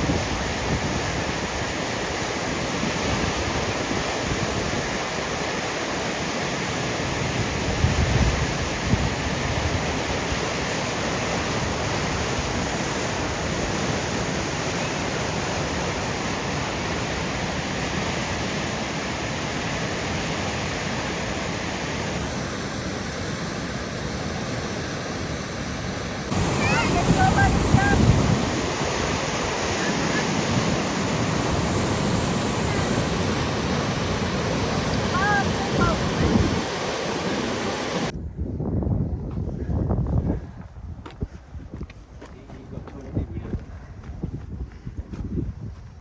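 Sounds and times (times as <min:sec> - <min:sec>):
wind on microphone: 0:00.0 - 0:05.6, 0:07.0 - 0:18.6, 0:24.0 - 0:46.0
flowing water rushing: 0:00.0 - 0:38.1.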